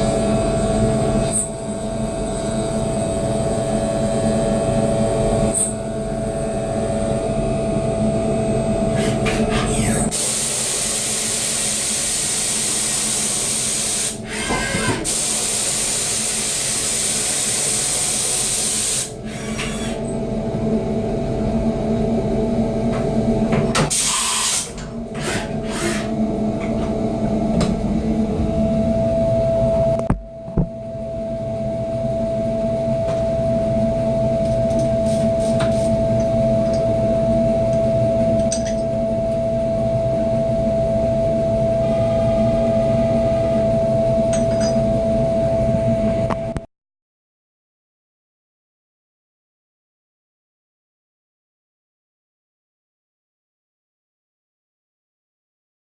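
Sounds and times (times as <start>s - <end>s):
milling machine humming and whining: 0.0s - 46.6s.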